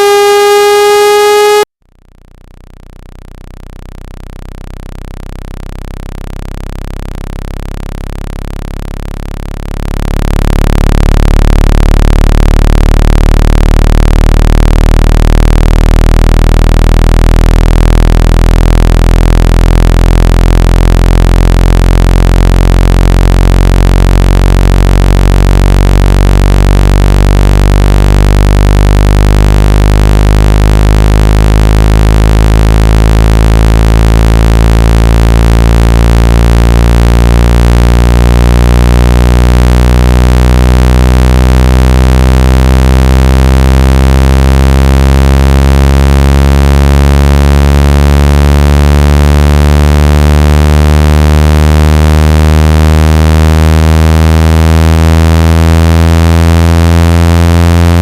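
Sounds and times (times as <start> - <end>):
low buzzy electronic tone: 0.0 - 58.0.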